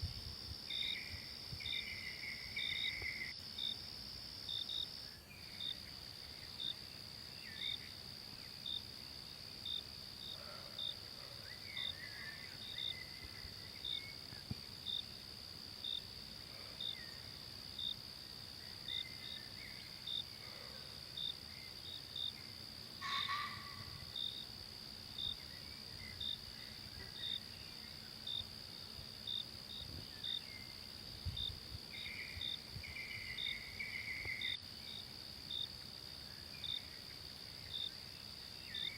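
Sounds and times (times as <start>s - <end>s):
cricket chirping: 0.0s - 38.9s
insect drone: 0.0s - 38.9s.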